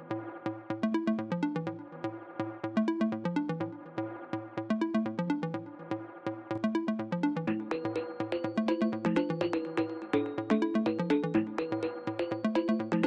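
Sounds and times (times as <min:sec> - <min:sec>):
electronic music with steady beat: 0:00.0 - 0:13.0.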